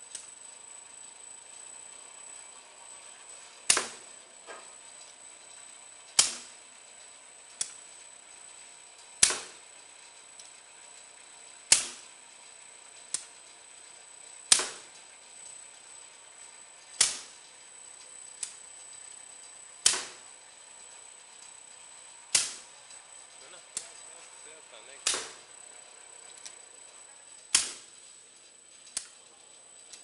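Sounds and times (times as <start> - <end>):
faint high whine: 0.0 - 30.0.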